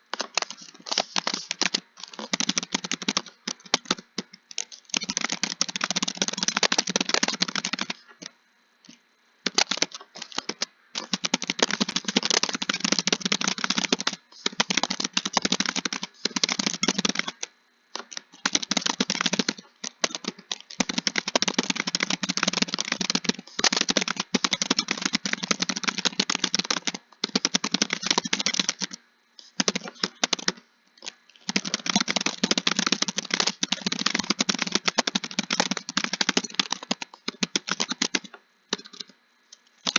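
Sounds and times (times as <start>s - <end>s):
fast keyboard typing: 0.0s - 8.1s, 9.5s - 30.6s, 31.4s - 39.1s.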